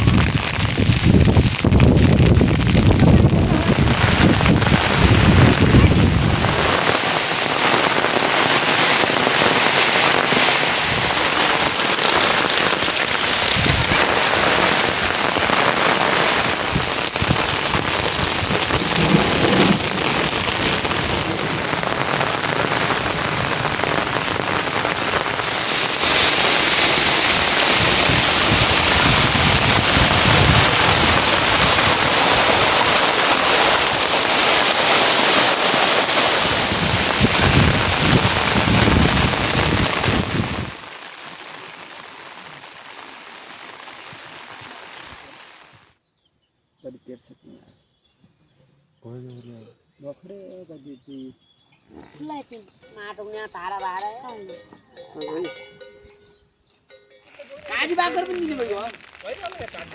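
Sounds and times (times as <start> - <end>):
rain falling: 0.0 - 45.9, 57.0 - 59.9.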